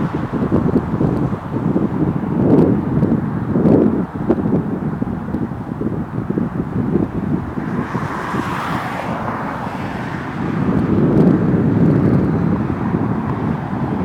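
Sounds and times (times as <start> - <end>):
jet engine rumble: 0.0 - 14.0
wind buffeting microphone: 0.0 - 14.0.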